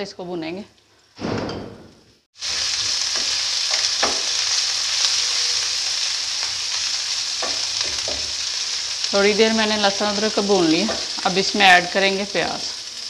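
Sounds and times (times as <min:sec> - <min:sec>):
paste sizzling in hot oil: 0:02.4 - 0:13.0.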